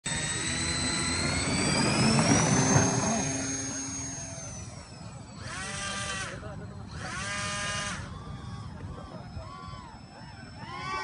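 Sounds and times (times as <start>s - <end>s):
model plane motors whining: 0.1s - 11.0s.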